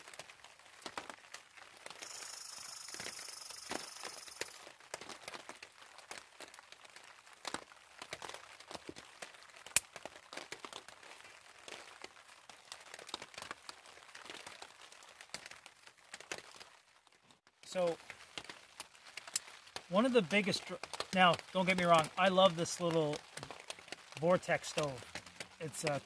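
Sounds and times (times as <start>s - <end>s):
twig fire crackling: 0.0s - 26.0s.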